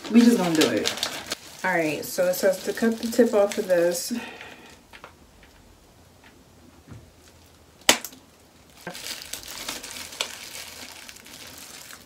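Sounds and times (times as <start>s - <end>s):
plastic crackling and rustling: 0.0s - 6.4s, 7.1s - 12.0s.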